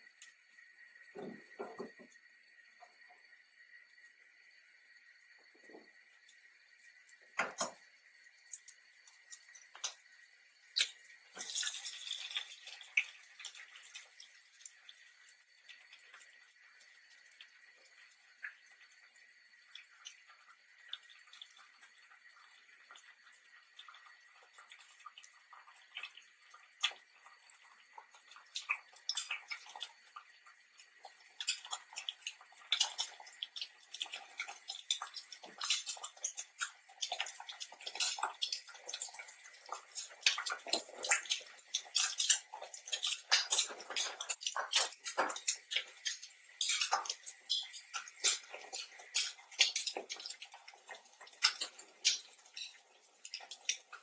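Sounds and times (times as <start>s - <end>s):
fat crackling and popping in pan: 0.0s - 54.0s.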